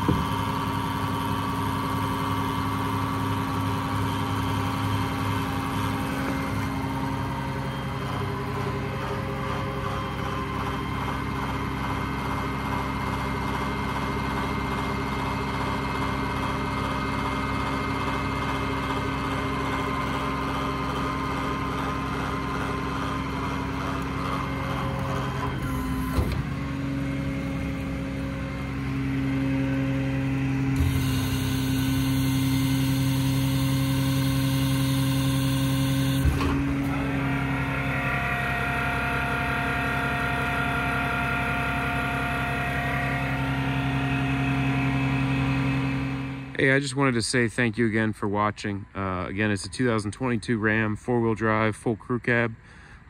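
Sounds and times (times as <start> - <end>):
hydraulic crane whine: 0.0 - 47.2
diesel engine running: 0.0 - 51.3.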